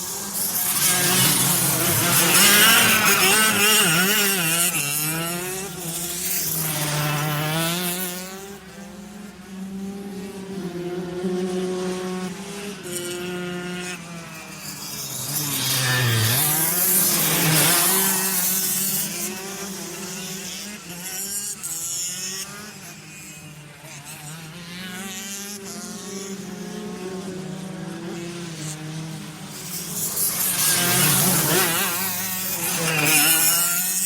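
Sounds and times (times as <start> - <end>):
go-kart engines passing: 0.0 - 34.0.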